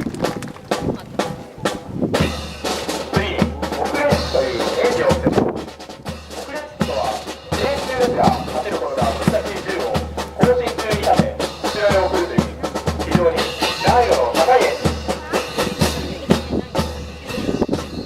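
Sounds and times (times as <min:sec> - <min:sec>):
bass drum beat: 0:00.0 - 0:18.0
brass band playing: 0:00.7 - 0:18.0.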